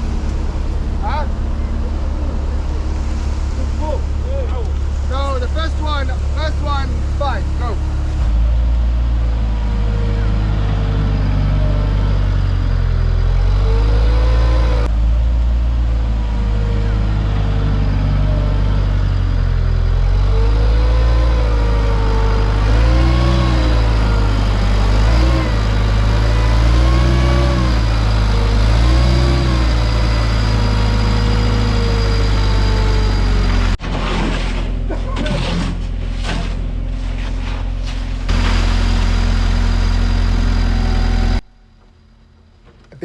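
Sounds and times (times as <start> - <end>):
heavy construction vehicle engine revving: 0.0 - 41.6.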